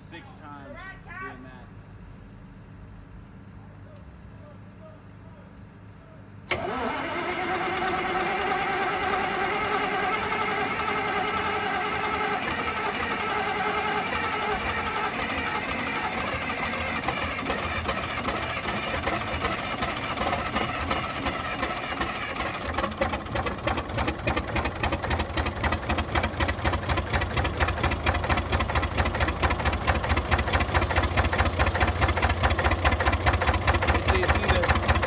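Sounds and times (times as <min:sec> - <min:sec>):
diesel engine cranking: 0:06.5 - 0:35.0
diesel engine running: 0:06.5 - 0:35.0.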